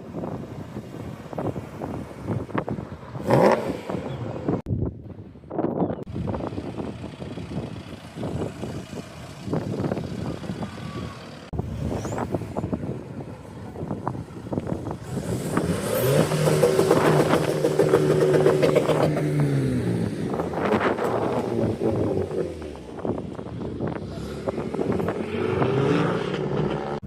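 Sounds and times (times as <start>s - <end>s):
wind noise on microphone: 0.0s - 27.0s.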